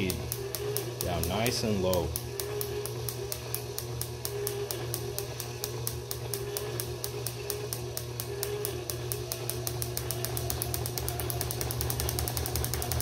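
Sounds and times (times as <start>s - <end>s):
drive motor humming: 0.0s - 13.0s
spark gap snapping: 0.0s - 13.0s.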